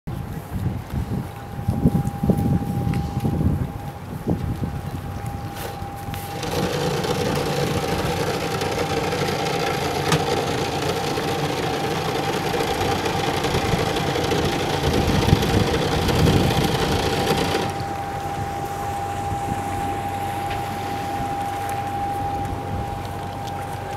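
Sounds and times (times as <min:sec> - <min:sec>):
boat engine running: 0:00.2 - 0:23.9
high whine: 0:01.2 - 0:23.9.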